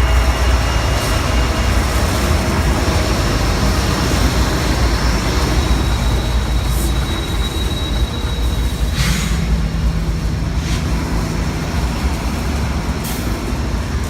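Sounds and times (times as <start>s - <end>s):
sharp noises from train cars: 0.0s - 14.0s
train rumbling past: 0.0s - 14.0s.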